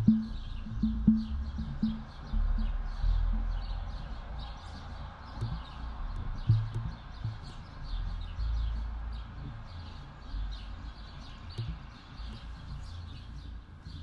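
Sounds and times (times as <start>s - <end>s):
small birds chirping: 0.0s - 14.0s
wind rumble on microphone: 0.0s - 14.0s.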